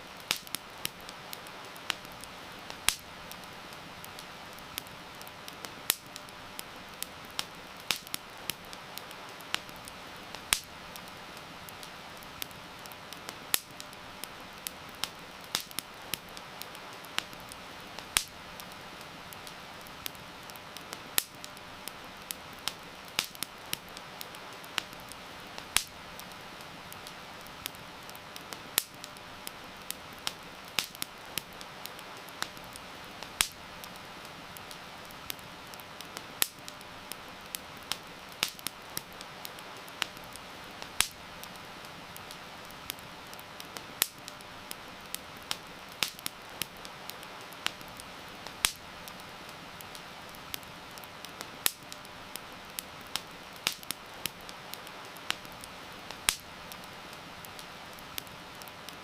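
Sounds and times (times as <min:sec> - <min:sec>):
campfire crackling and popping: 0:00.0 - 0:59.0
rain hissing: 0:00.0 - 0:59.0.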